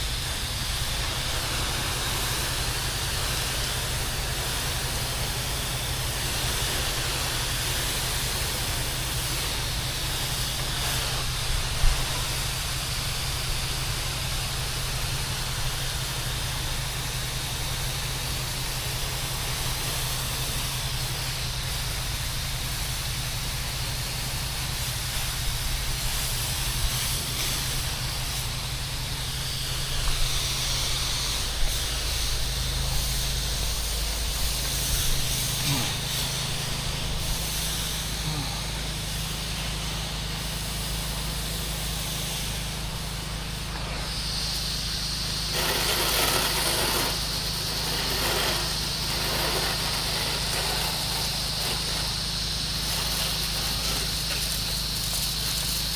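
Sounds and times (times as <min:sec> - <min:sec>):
pressure washer engine hum: 0:00.0 - 0:55.9
water spray hissing: 0:00.0 - 0:55.9.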